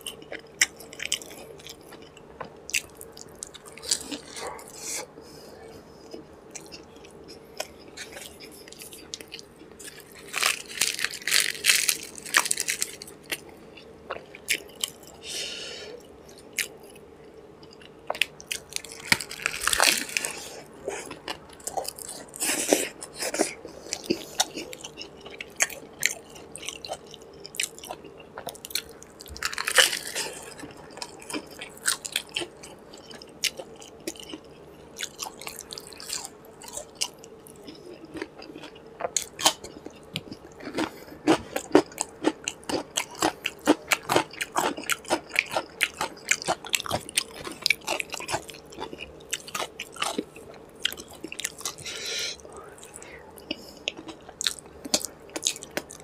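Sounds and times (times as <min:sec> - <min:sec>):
man chewing and biting food: 0:00.0 - 0:05.2, 0:06.0 - 0:15.2, 0:16.0 - 0:56.0.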